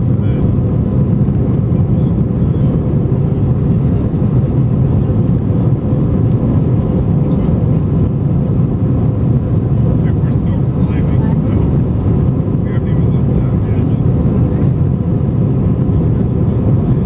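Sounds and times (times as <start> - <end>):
jet engine and airflow roar: 0.0 - 17.0.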